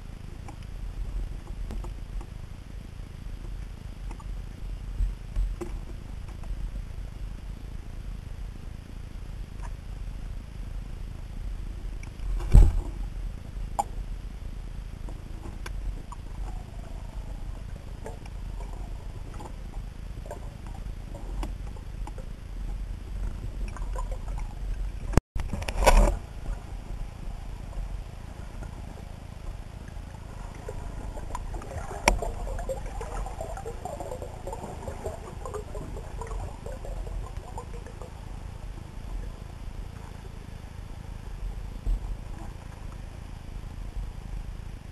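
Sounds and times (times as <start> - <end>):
underwater rumble of moving water: 0.0 - 44.9.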